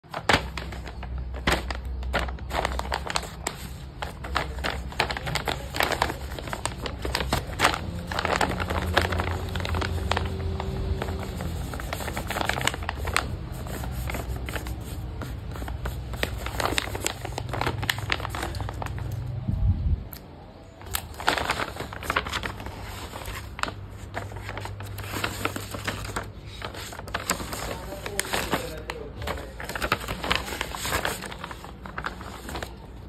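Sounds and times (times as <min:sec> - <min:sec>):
packaging crinkling: 0:00.0 - 0:19.3, 0:20.8 - 0:33.0.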